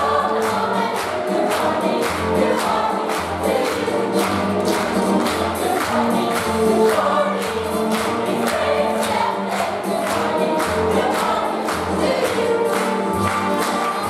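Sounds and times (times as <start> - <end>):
chorus singing over music: 0.0 - 14.0.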